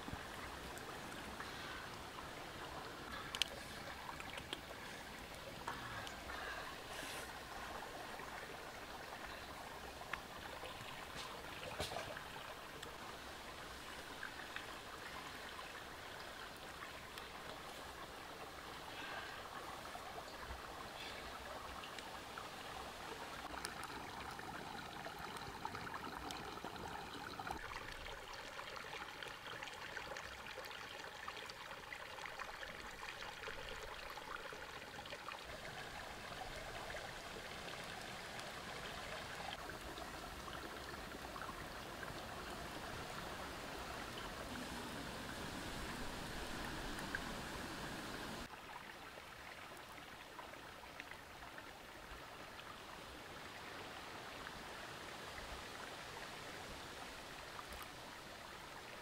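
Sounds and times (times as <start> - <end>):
water trickling: 0.0 - 54.4.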